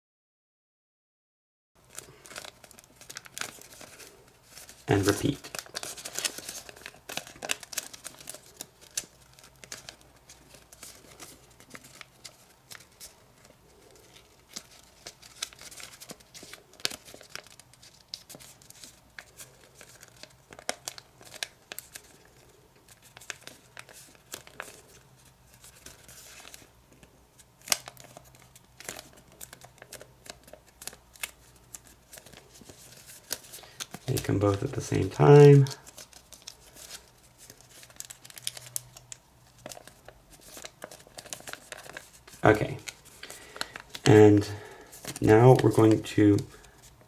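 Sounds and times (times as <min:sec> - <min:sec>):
paper crinkling and rustling: 0:01.8 - 0:47.0.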